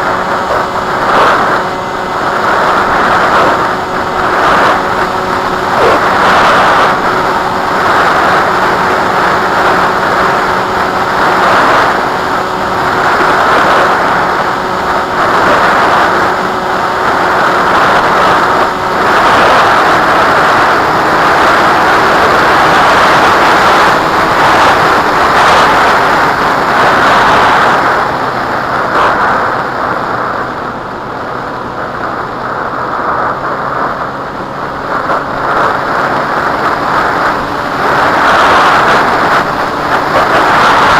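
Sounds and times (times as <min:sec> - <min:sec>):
gusty wind buffeting microphone: 0:00.0 - 0:40.9.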